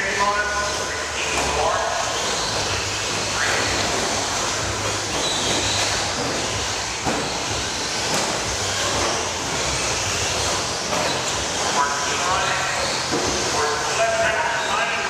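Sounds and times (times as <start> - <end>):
toy car motor whine: 0.1 - 15.0.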